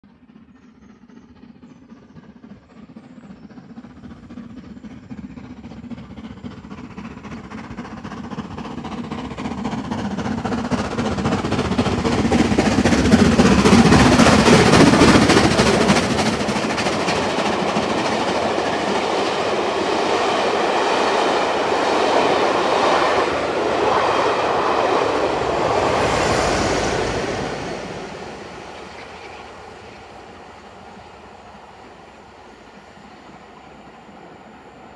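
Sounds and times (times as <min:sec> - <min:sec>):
coaches running on rails: 0:00.0 - 0:34.9
steam locomotive passing: 0:00.0 - 0:34.9.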